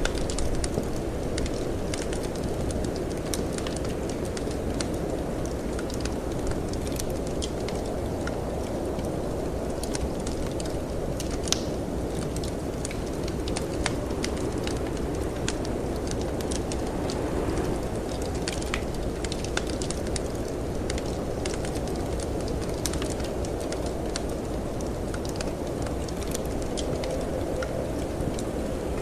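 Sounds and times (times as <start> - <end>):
low rush of wind: 0.0 - 29.0
wood fire crackling and popping: 0.0 - 29.0.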